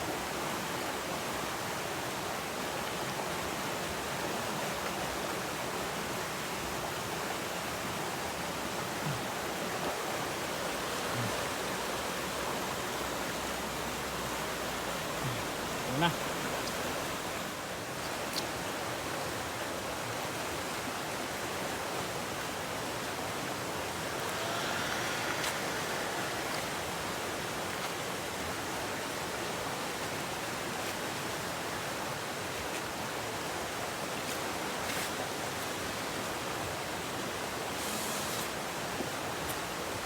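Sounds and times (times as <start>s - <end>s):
river water rushing: 0.1s - 40.0s.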